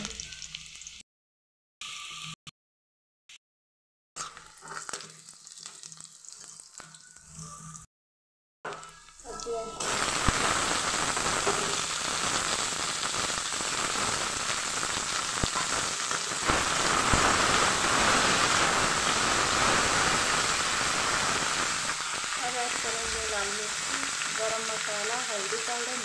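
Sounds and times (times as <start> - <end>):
vegetables sizzling in hot oil: 0.0 - 1.0, 4.2 - 7.8, 8.7 - 26.0.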